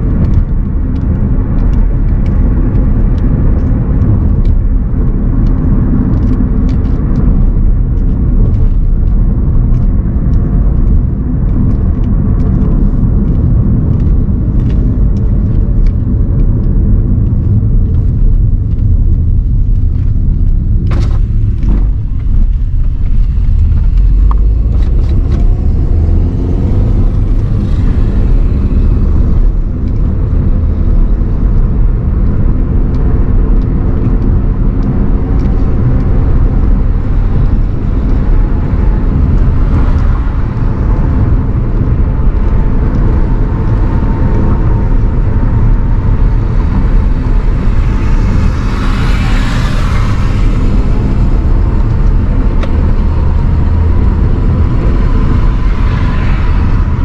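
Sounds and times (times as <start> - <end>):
car engine rumble: 0.0 - 57.0.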